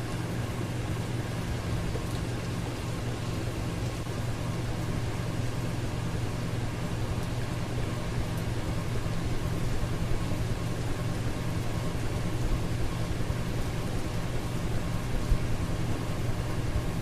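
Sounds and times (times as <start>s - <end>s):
ceiling fan running: 0.0s - 17.0s.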